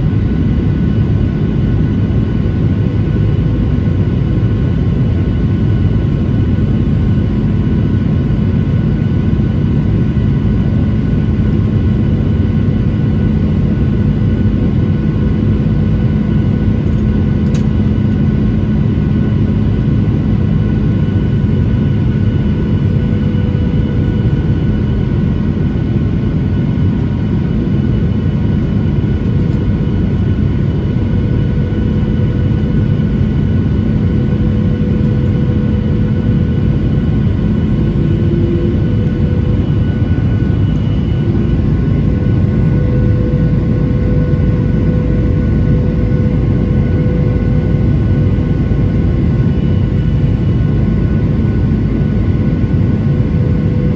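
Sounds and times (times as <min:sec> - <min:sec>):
engine and airflow rumble: 0:00.0 - 0:53.9.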